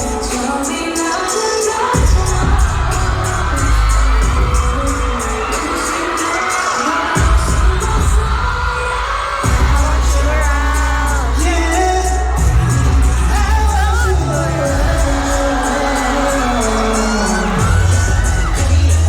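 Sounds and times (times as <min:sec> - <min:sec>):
male vocal singing: 0:00.0 - 0:19.0
loud bass beat: 0:02.0 - 0:19.0.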